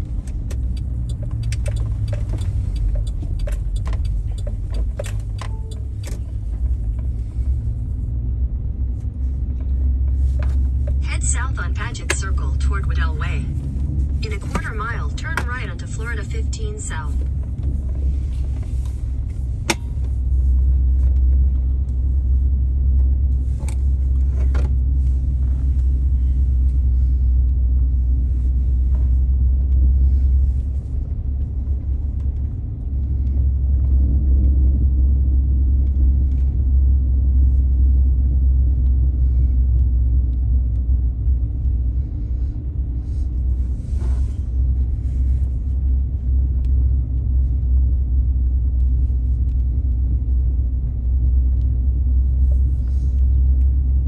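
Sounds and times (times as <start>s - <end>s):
car rumble from inside cabin: 0.0s - 54.0s.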